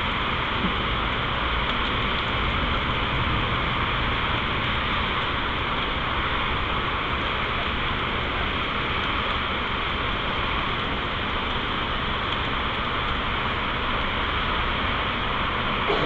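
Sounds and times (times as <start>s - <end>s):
heavy rain hissing: 0.0s - 16.0s
traffic on a wet road: 0.0s - 16.0s.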